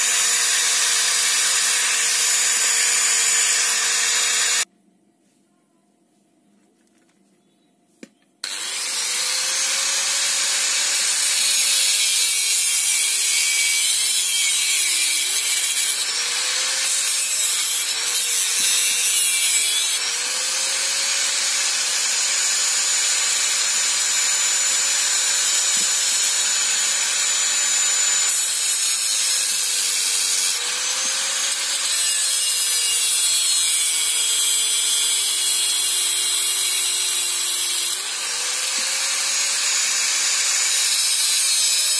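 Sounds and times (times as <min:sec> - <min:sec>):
angle grinder grinding metal: 0:00.0 - 0:04.7, 0:08.4 - 0:41.9.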